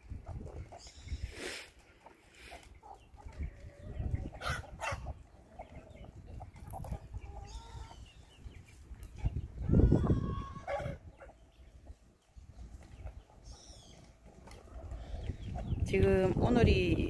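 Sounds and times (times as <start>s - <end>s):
chickens clucking: 0.0s - 16.7s.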